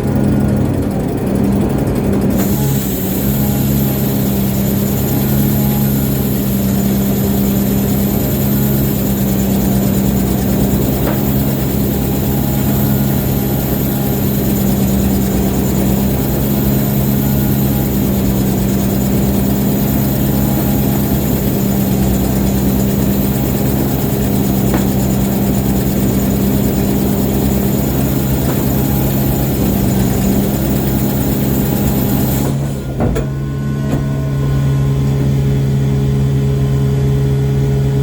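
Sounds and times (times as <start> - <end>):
ship engine hum: 0.0 - 38.0.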